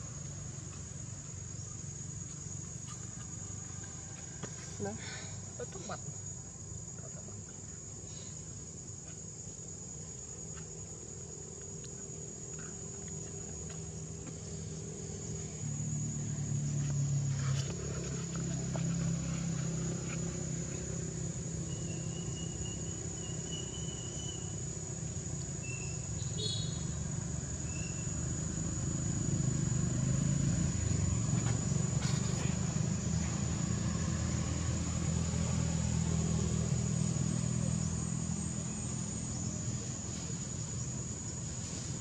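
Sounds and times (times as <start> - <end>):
engine rumbling: 0.0 - 42.0
high-pitched insect drone: 0.0 - 42.0.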